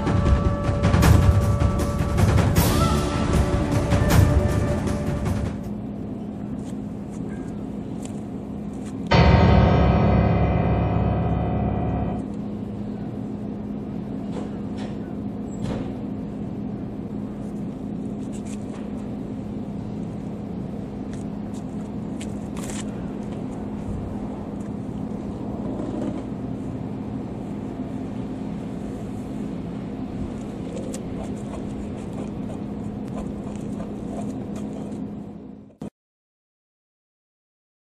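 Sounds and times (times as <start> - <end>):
outdoor background noise: 0.0 - 35.9.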